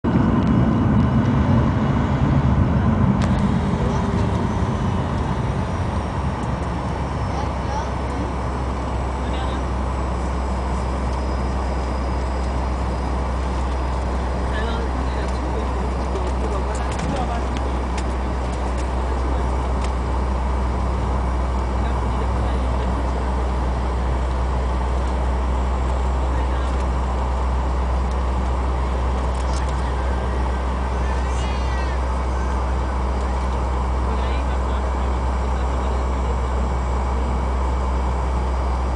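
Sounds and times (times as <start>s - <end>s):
jet engines roaring in cabin: 0.0s - 38.9s.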